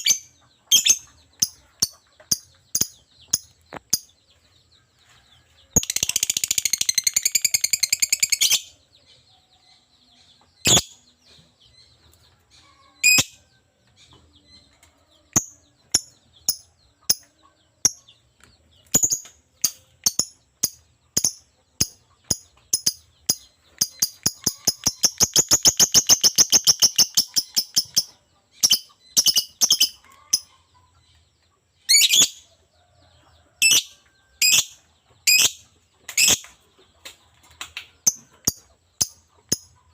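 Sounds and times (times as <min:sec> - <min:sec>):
bird chirps: 0:00.0 - 0:39.9.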